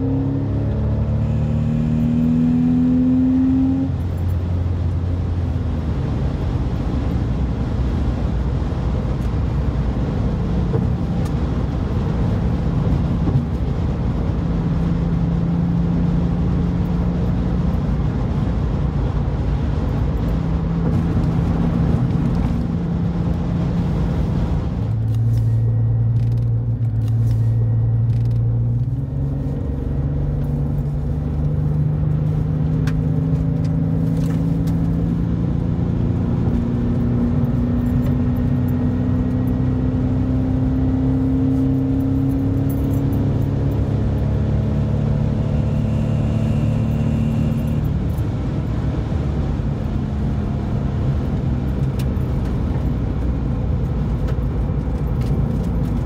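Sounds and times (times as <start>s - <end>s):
car engine: 0.0s - 56.0s
road and wind noise: 0.0s - 56.0s.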